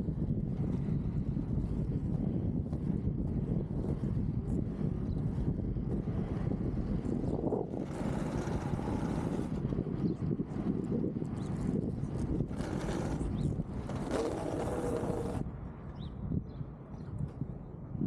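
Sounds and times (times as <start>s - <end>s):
wind noise on microphone: 0.0s - 18.0s
inline skate wheels rolling on pavement: 0.1s - 15.5s.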